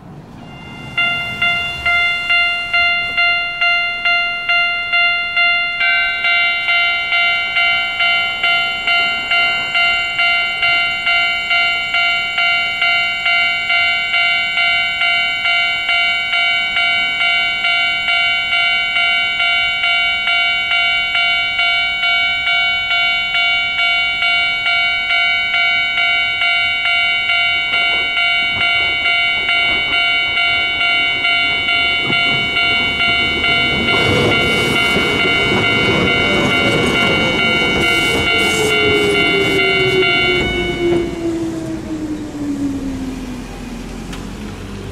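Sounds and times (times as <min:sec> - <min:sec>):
electric train rumble: 0:00.0 - 0:44.9
train falling whine: 0:00.0 - 0:44.9
level crossing bell ringing: 0:00.4 - 0:41.3.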